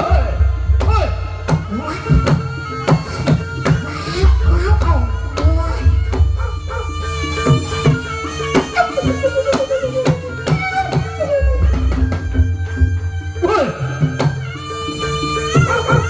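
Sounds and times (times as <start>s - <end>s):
shrill reed pipe melody: 0.0s - 16.0s.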